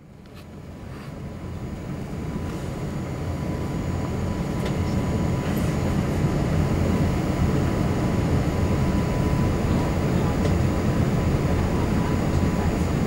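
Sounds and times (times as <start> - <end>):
faint high hum: 0.0 - 13.0
low rumble of aircraft engines: 0.0 - 13.0.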